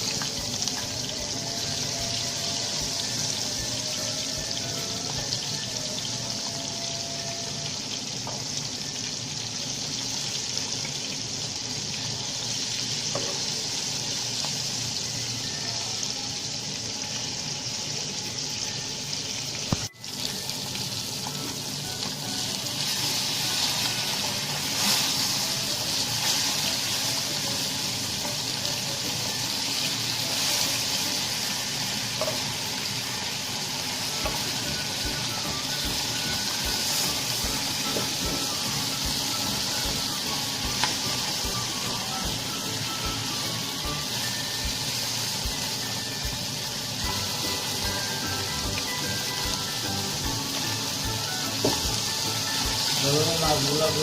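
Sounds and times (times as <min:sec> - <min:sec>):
fish frying in hot oil: 0:00.0 - 0:54.0.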